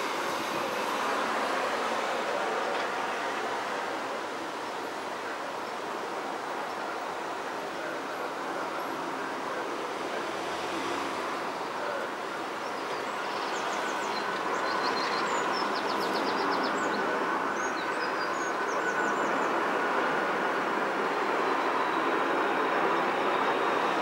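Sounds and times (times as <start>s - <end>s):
airliner jet engines rushing: 0.0s - 24.0s.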